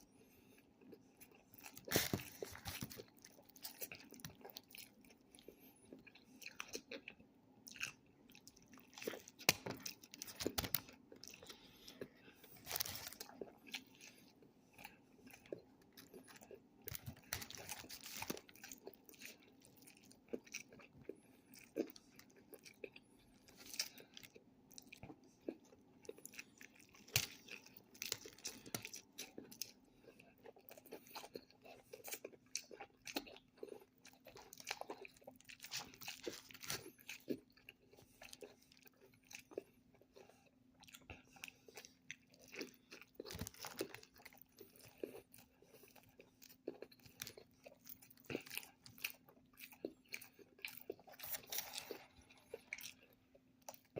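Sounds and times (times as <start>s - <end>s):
chewing with wet mouth sounds: 0.0s - 53.9s.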